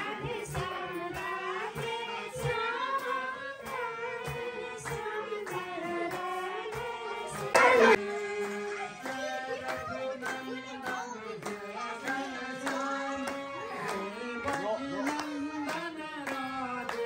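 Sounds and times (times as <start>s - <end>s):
hand claps and percussion: 0.0s - 17.0s
harmonium chords: 0.0s - 17.0s
voices singing: 0.0s - 17.0s.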